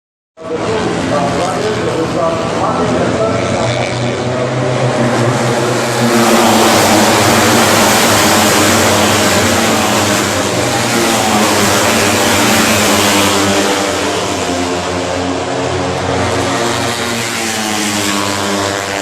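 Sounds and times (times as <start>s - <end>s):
loud engine noise: 0.4s - 19.0s.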